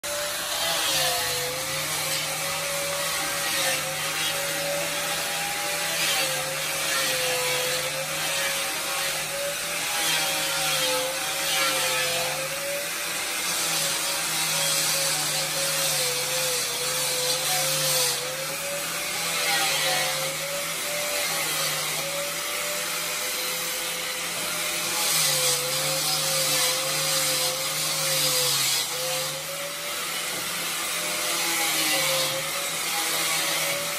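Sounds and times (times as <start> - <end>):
power tool cutting wood: 0.0 - 33.9.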